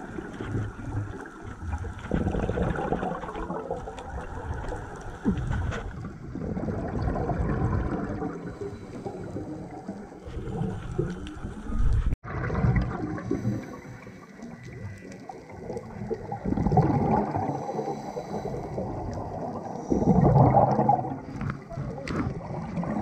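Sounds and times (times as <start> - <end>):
underwater bubbles gurgling: 0.0 - 23.0.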